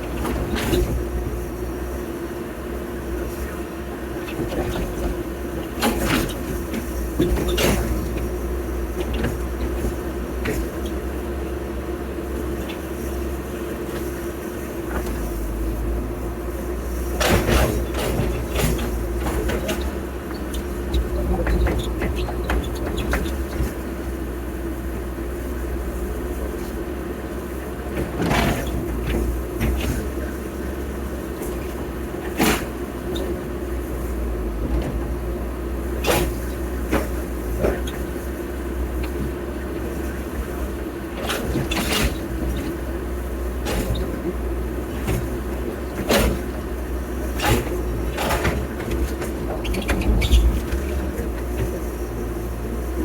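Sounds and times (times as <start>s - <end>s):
diesel machinery running: 0.0s - 53.0s.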